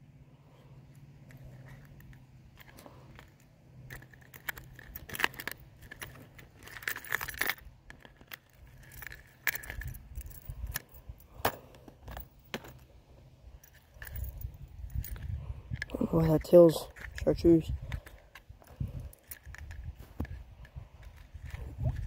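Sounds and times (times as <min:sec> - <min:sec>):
metal lures clinking and rattling: 0:00.9 - 0:22.0.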